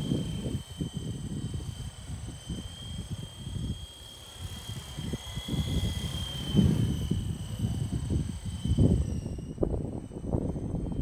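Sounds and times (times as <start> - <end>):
model helicopter motor whine: 0.0 - 11.0
wind on microphone: 0.0 - 11.0.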